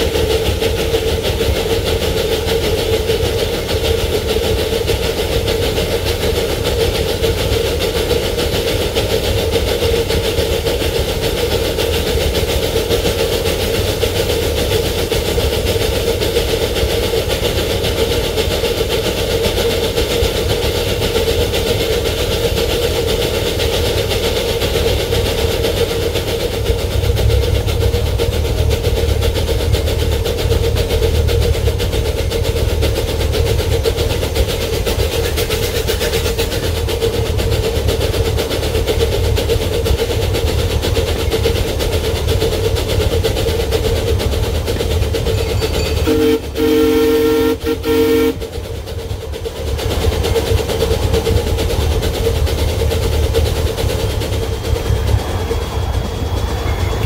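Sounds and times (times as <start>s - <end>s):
locomotive engine drone: 0.0s - 57.0s
wheels rumbling on rails: 0.0s - 57.0s.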